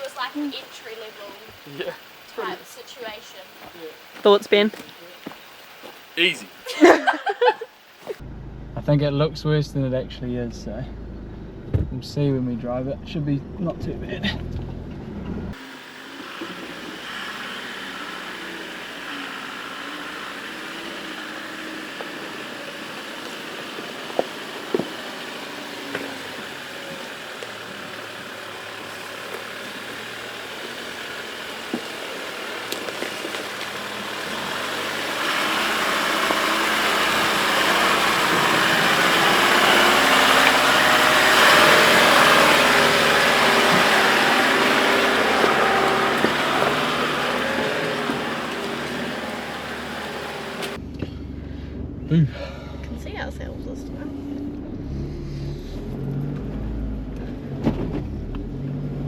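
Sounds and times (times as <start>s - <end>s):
vehicle engine running: 0.0s - 6.4s, 7.9s - 59.0s.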